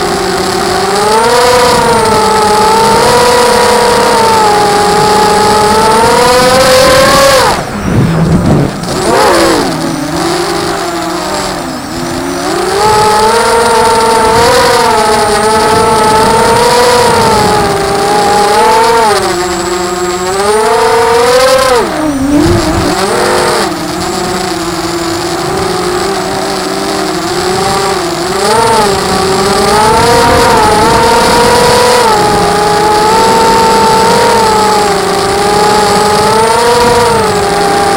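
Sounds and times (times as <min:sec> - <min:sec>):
quadcopter propellers whining: 0:00.0 - 0:37.9.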